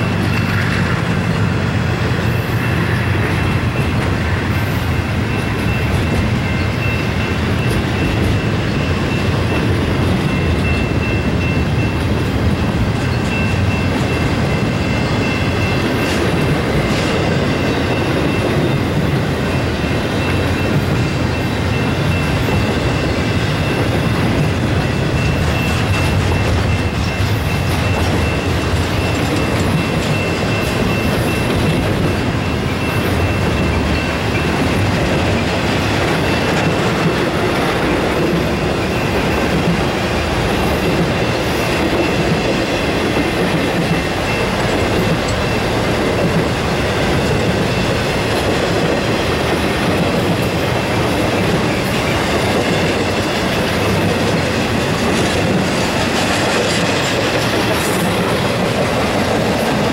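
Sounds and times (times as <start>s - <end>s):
high ringing tone: 0.0s - 59.9s
train wheels running on rail: 0.0s - 59.9s.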